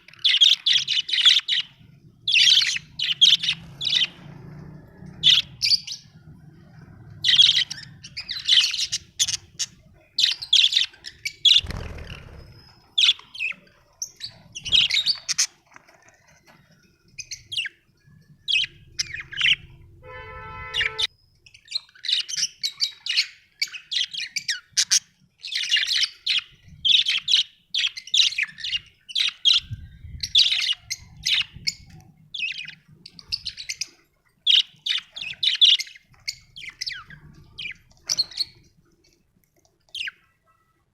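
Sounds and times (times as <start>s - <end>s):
budgerigars chirping: 0.2s - 4.3s, 5.1s - 6.2s, 7.2s - 15.5s, 18.5s - 21.1s, 21.7s - 38.7s.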